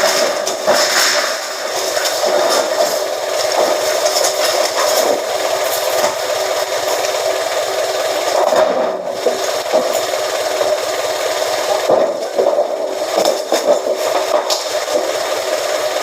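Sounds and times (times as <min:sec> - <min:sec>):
press machine running: 0:00.0 - 0:16.0.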